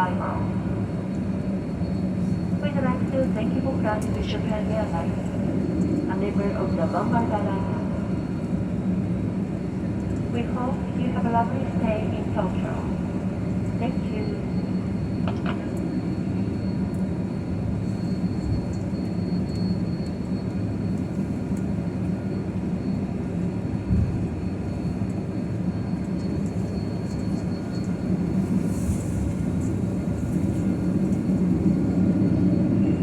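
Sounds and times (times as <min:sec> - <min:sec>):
jet engine and cabin rumble: 0:00.0 - 0:33.0.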